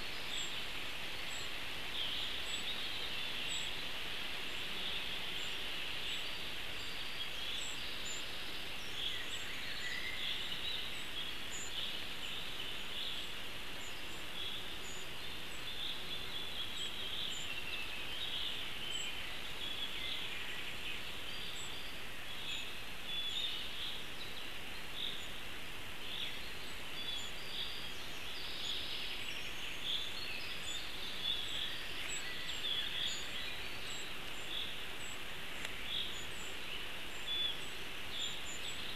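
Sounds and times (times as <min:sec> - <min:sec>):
songbirds chirping and singing: 0:00.0 - 0:38.9
steady background hiss: 0:00.0 - 0:38.9.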